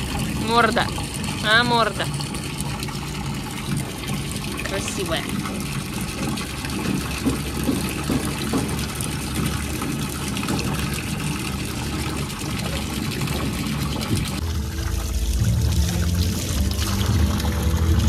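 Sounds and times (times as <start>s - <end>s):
water splashing into pool: 0.0s - 18.0s.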